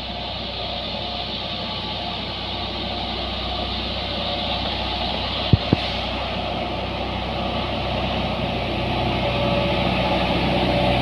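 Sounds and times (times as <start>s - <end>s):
diesel truck engine climbing: 0.0s - 11.0s.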